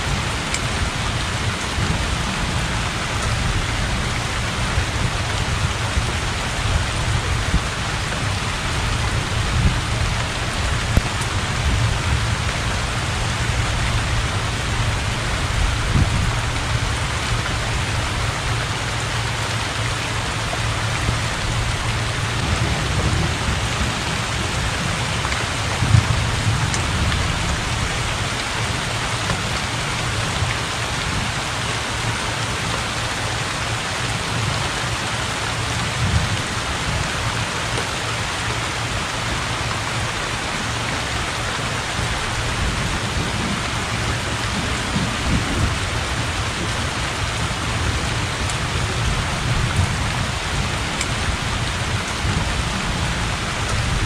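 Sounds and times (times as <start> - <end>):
heavy rain on water and roof: 0.0 - 54.0.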